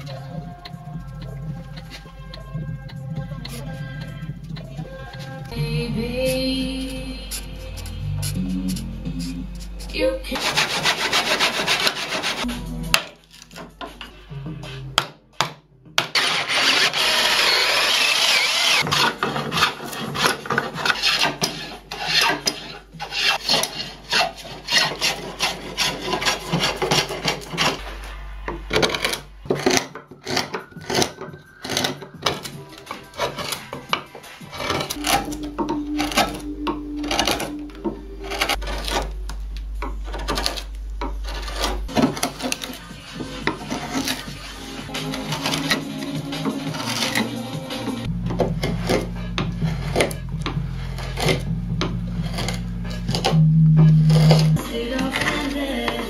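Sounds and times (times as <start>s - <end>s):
carving gouge paring wood: 0.0s - 14.0s, 15.0s - 27.8s, 28.5s - 53.4s, 54.0s - 55.9s.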